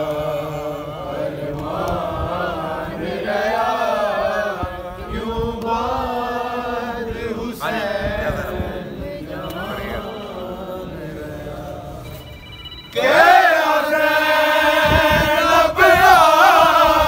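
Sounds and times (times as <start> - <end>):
men chanting in unison: 0.0 - 12.0, 13.0 - 17.0.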